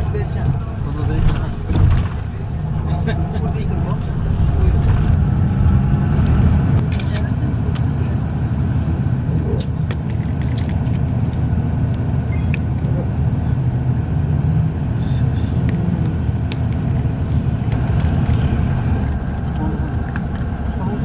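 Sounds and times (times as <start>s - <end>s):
vehicle engine and tyres rumbling: 0.0s - 21.0s.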